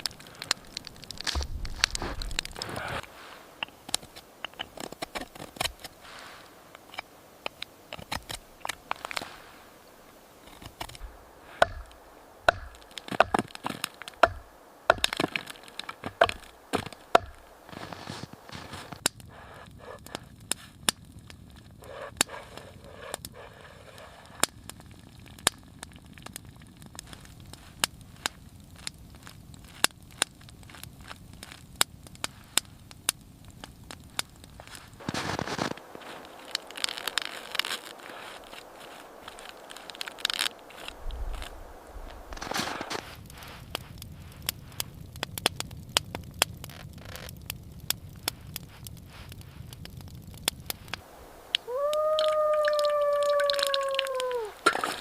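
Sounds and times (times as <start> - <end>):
wood cracking and crunching: 0.0 - 9.5, 10.4 - 22.3, 24.3 - 55.0
wood fire crackling: 0.0 - 55.0.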